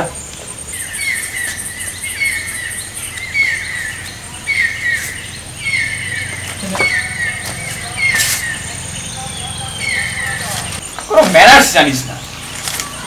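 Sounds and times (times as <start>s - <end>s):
bird calling falling chirps: 0.0s - 13.0s.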